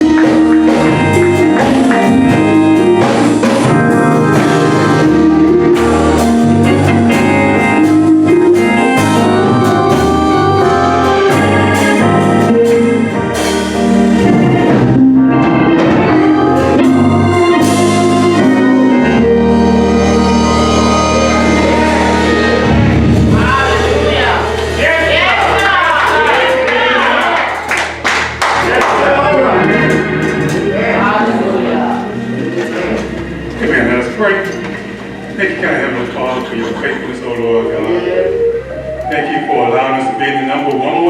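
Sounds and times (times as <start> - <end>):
church organ music: 0.0 - 41.0
drums keeping a beat: 0.0 - 41.0
keyboard chords: 0.0 - 41.0.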